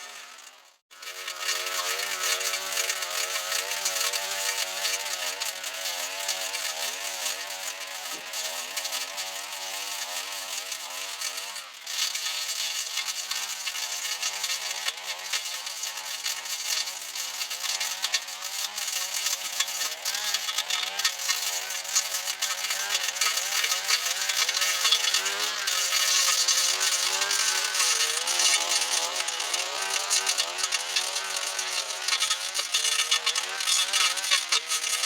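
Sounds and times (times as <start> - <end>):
two-stroke power tool engine running: 0.0 - 35.0.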